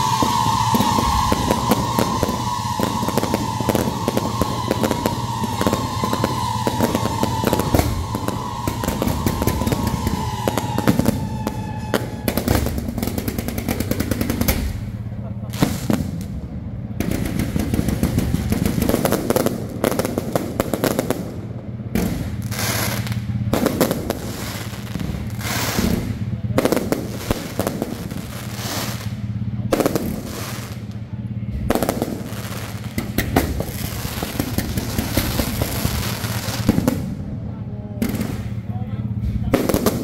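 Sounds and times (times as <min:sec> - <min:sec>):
fireworks launching and bursting: 0:00.0 - 0:40.0.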